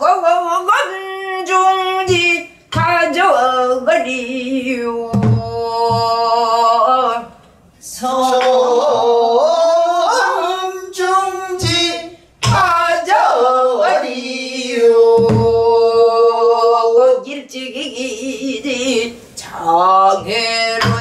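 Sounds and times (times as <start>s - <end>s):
woman singing: 0.0s - 21.0s.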